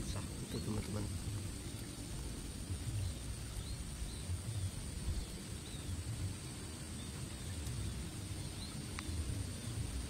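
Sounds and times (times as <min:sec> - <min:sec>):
faint bird chirps: 0:00.0 - 0:10.0
low rumble on microphone: 0:00.0 - 0:10.0.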